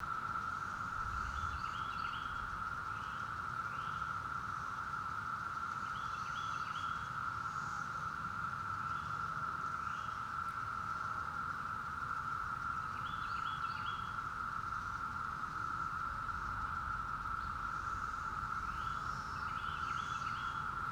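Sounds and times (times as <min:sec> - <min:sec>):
cicadas droning: 0:00.0 - 0:20.9.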